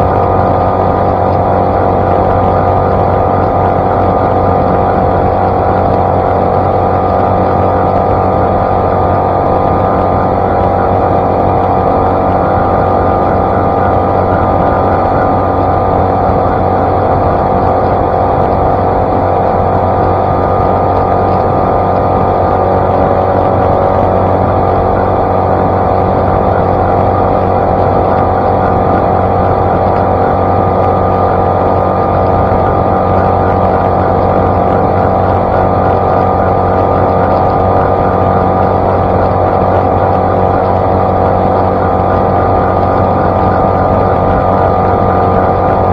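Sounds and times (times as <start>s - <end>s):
outboard motor at high speed: 0.0s - 45.9s
water rushing off hull: 0.0s - 45.9s.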